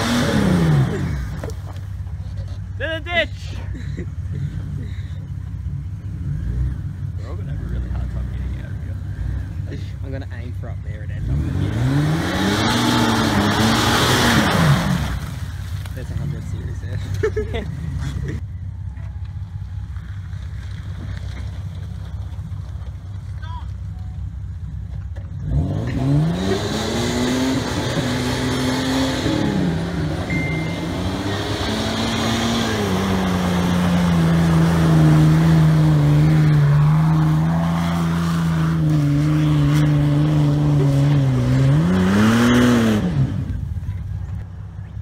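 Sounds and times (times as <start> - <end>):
car engine revving under load: 0.0 - 2.7, 4.2 - 18.2, 24.2 - 44.5.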